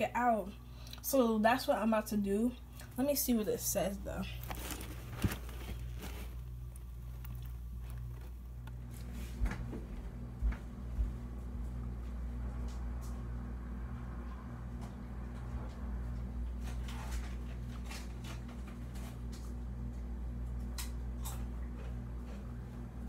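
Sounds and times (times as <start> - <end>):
ceiling fan motor humming: 0.0 - 23.0.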